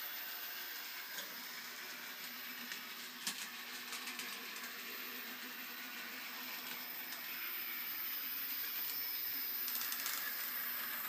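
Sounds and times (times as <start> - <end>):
small electric motor whirring: 0.0 - 11.0.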